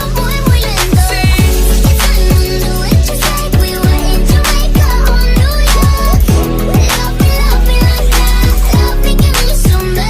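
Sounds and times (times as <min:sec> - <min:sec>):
hip-hop music with deep bass: 0:00.0 - 0:10.0
rapping: 0:00.0 - 0:10.0.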